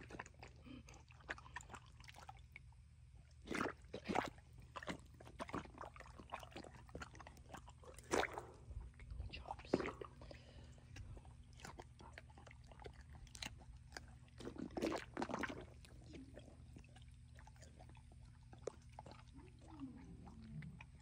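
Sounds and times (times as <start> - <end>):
big cat lapping water: 0.0 - 21.0.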